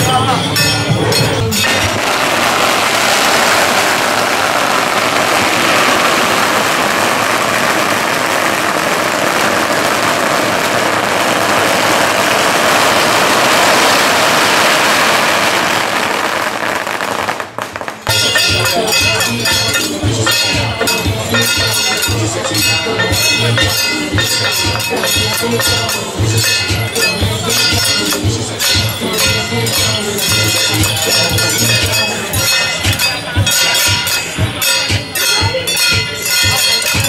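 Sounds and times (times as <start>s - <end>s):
firecrackers crackling: 0.0s - 37.0s.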